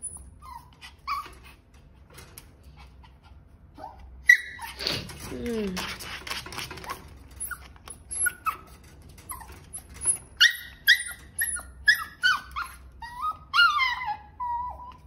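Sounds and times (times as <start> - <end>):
puppy crying: 0.0 - 1.7, 2.8 - 5.1, 6.8 - 15.0.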